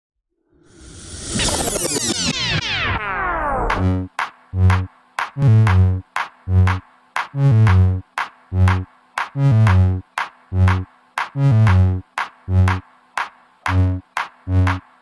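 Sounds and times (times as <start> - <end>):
electronic music with chord stabs: 1.4 - 15.0.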